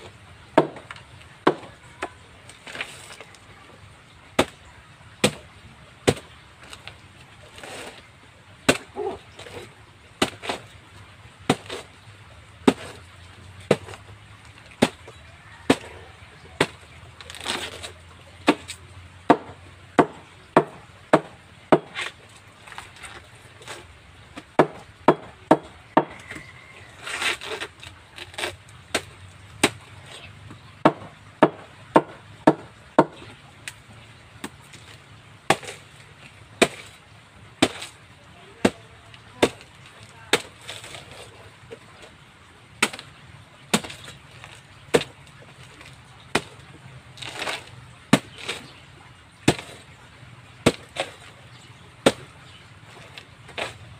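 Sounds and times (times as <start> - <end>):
machete chopping banana trunk: 0.5 - 3.4, 4.3 - 8.0, 8.6 - 10.8, 11.4 - 12.0, 12.6 - 22.8, 23.6 - 33.8, 34.4 - 37.0, 37.6 - 42.1, 42.8 - 53.9.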